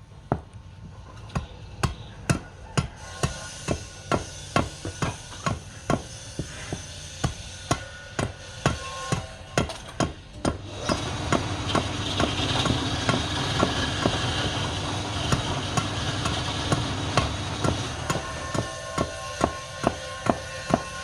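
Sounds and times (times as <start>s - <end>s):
machine hum and hiss: 0.0s - 21.0s.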